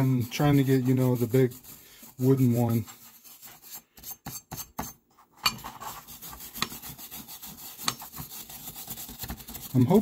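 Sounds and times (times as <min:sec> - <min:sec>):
wire brush scrubbing rusted iron: 0:00.0 - 0:04.9, 0:05.5 - 0:10.0.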